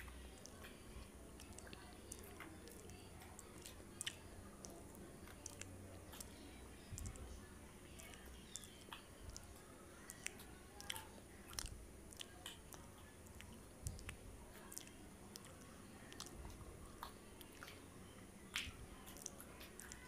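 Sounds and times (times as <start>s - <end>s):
chewing soft bread: 0.0s - 20.0s
wet mouth clicks and smacks: 1.4s - 7.2s, 8.0s - 17.8s, 18.5s - 20.0s.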